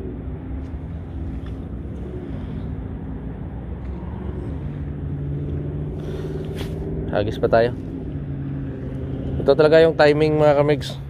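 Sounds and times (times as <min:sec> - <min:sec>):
engine running hum: 0:00.0 - 0:11.0.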